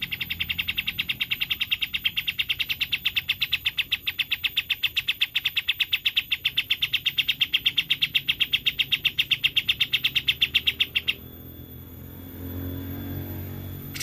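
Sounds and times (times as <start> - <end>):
songbird rapid trill: 0.0 - 14.0.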